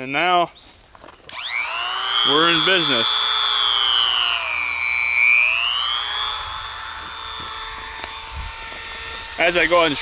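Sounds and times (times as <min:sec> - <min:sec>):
rotary grinder whining: 0:01.3 - 0:10.0.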